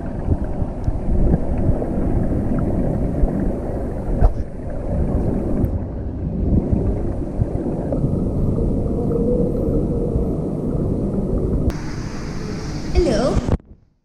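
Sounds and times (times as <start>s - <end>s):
muffled underwater rumble: 0.0s - 13.8s.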